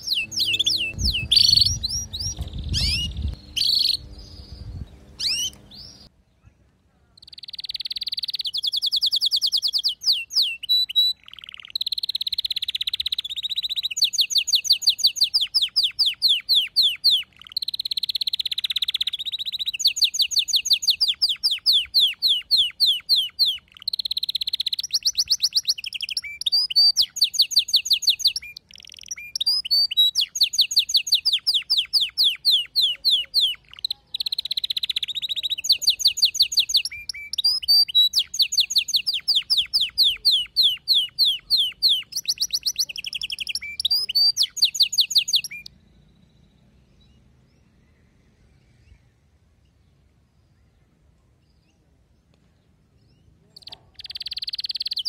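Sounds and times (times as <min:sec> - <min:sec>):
canary singing trills: 0:00.0 - 0:06.1, 0:07.1 - 0:49.2, 0:53.0 - 0:55.0.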